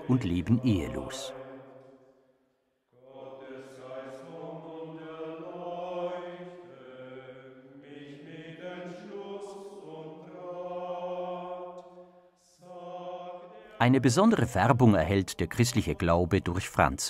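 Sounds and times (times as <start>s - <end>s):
voices singing a slow chant: 0.0s - 2.3s, 2.9s - 16.7s.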